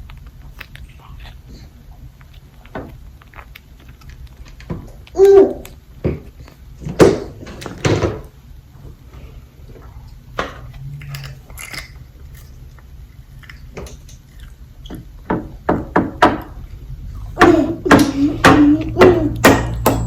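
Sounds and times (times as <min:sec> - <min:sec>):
biting and chewing food: 0:00.0 - 0:20.0.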